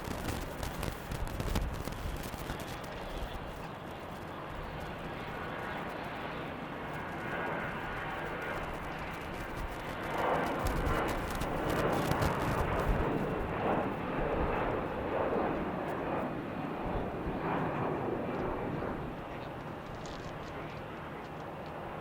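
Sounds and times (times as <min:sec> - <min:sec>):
passenger jet engine rumble: 0:00.0 - 0:22.0.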